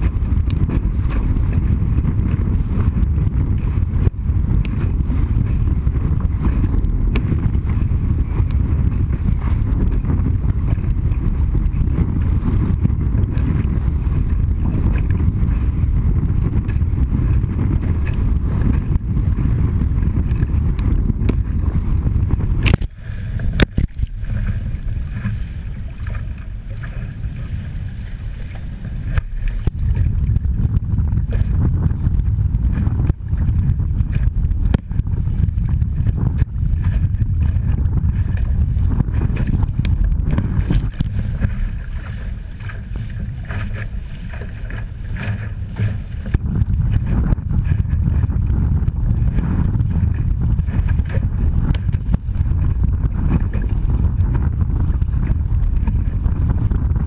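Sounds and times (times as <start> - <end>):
water rushing past hull: 0.0 - 57.0
waves slapping boat: 0.0 - 57.0
wind buffeting microphone: 0.0 - 57.0.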